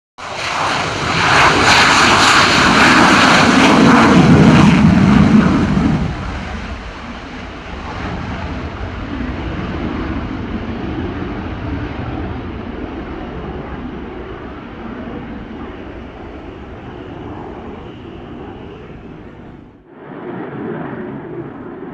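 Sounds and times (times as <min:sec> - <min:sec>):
fighter jet taking off: 0:00.2 - 0:21.9.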